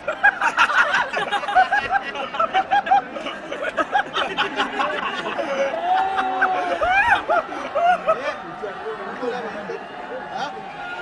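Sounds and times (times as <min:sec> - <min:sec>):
people laughing: 0:00.0 - 0:11.0
people talking over one another: 0:00.0 - 0:11.0.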